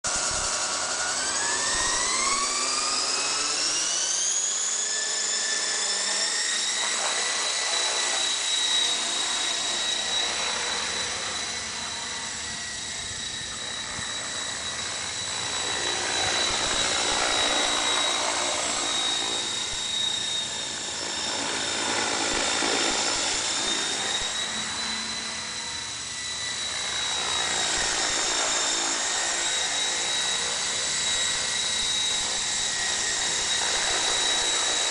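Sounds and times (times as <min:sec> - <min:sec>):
model helicopter motor whine: 0:00.0 - 0:34.9.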